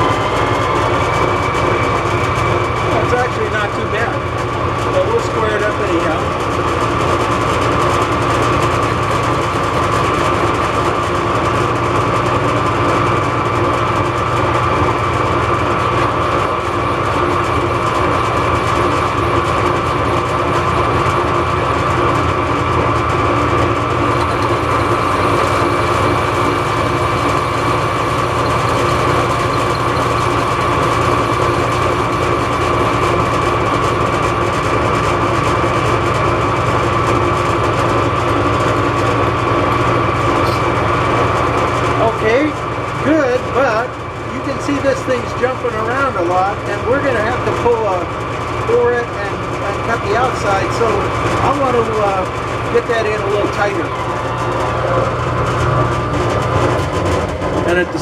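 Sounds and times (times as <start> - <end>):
metal lathe whining: 0.0 - 58.0.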